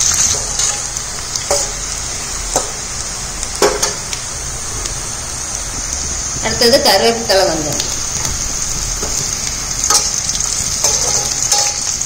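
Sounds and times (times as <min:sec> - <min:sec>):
chillies sizzling in hot oil: 0:00.0 - 0:12.0.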